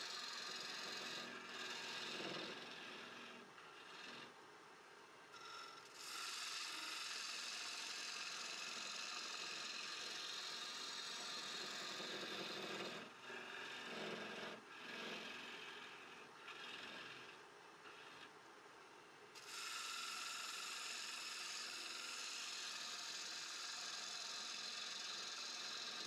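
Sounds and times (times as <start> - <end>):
lathe gouge cutting wood: 0.0 - 4.3, 5.3 - 18.3, 19.4 - 26.0.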